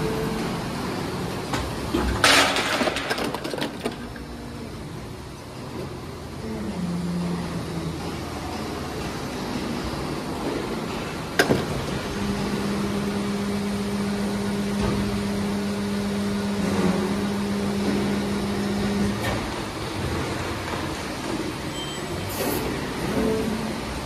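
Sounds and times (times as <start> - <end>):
steady low machine hum: 0.0 - 21.7
machine hall noise: 0.0 - 24.0.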